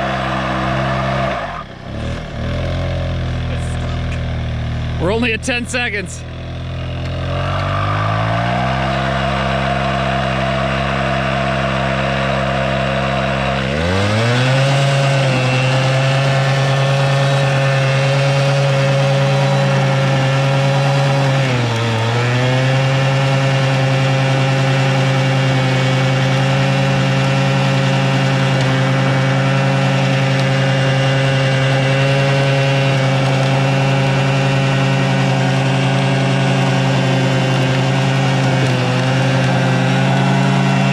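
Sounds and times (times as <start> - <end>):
two-stroke engine revving high: 0.0 - 40.9.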